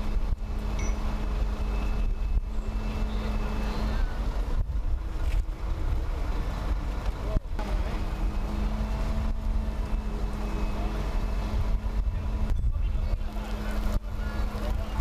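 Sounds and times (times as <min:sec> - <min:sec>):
crane engine humming: 0:00.0 - 0:15.0
wind rumbling on microphone: 0:00.0 - 0:15.0.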